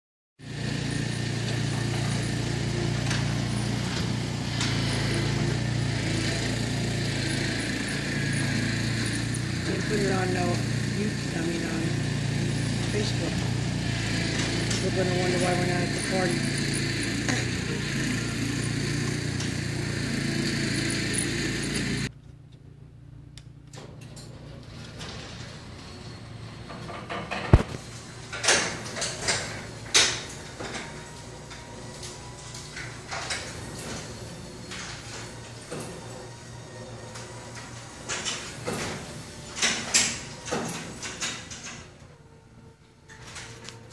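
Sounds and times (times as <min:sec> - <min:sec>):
garage door screen motor humming: 0:00.4 - 0:43.9.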